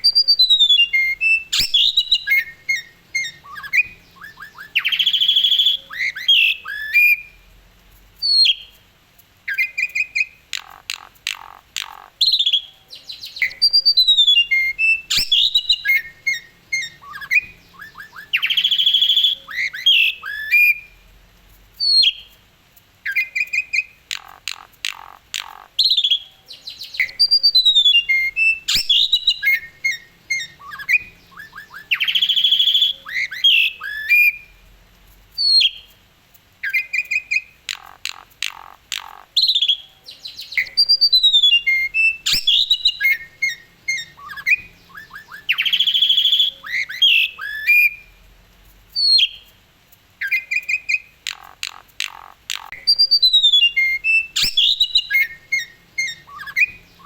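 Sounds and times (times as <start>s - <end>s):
starling singing: 0.0s - 7.4s, 9.5s - 21.0s, 23.0s - 34.6s, 36.6s - 48.2s, 50.2s - 57.0s.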